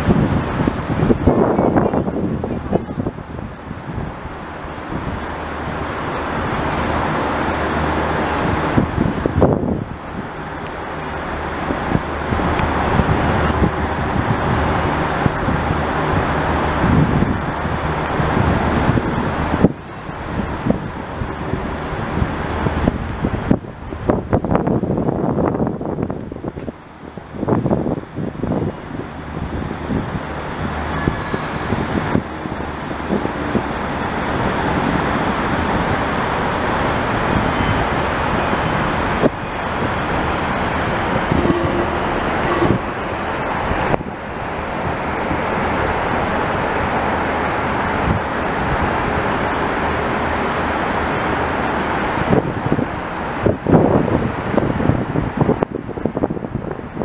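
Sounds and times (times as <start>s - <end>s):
low engine hum: 0.0s - 57.0s
road traffic rushing: 0.0s - 57.0s.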